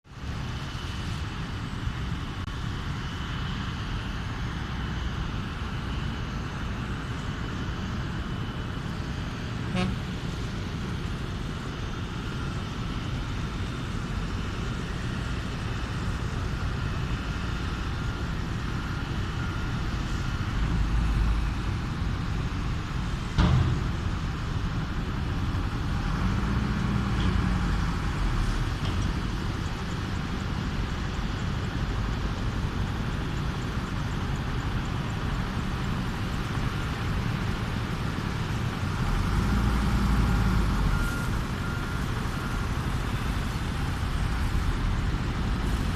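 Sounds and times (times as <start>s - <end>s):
traffic rumble: 0.2s - 45.9s.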